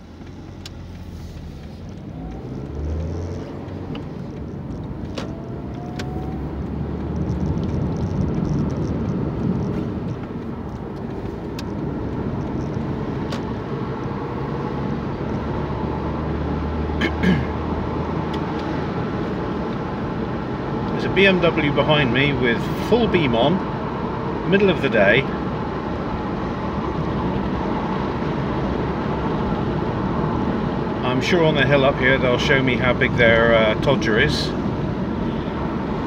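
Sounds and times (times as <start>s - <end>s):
car engine and road noise: 0.0s - 36.0s.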